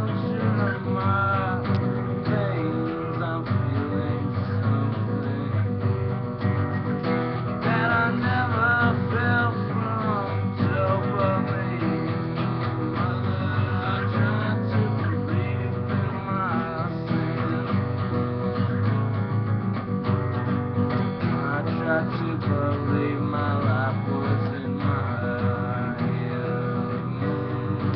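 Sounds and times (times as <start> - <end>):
acoustic guitar strumming: 0.0 - 27.9.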